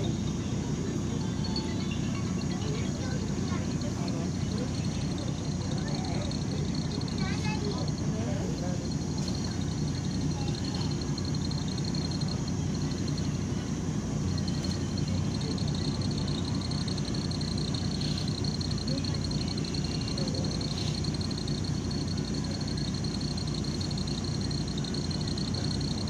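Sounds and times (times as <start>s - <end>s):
bus engine drone: 0.0s - 26.0s
high-pitched whine: 0.0s - 26.0s.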